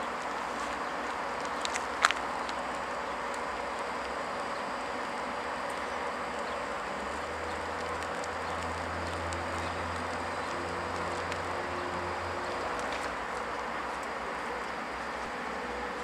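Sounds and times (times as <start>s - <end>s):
deeper low hum: 0.0s - 16.0s
locomotive whirring hum: 0.0s - 16.0s.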